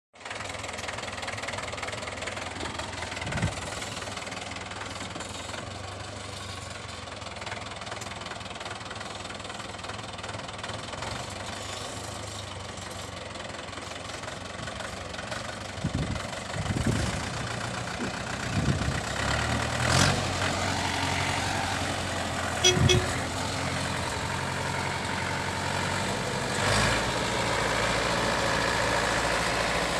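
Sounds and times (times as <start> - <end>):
tractor engine running: 0.2 - 29.9.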